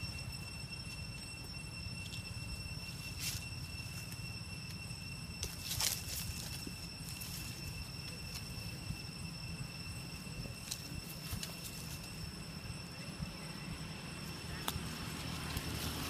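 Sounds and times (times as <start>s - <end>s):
thin high whine: 0.0s - 16.0s.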